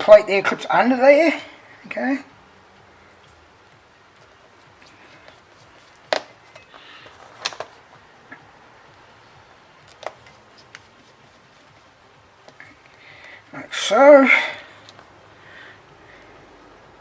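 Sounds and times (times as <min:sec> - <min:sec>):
light handling: 0:01.8 - 0:15.6.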